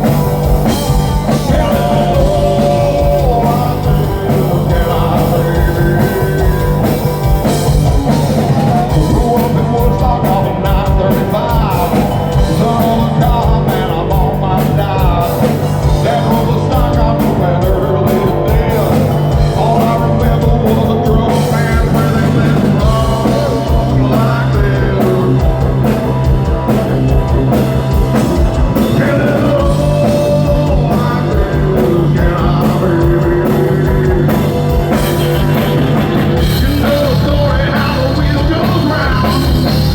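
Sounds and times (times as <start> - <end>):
live rock band playing: 0.0 - 39.9
person singing: 0.0 - 39.9.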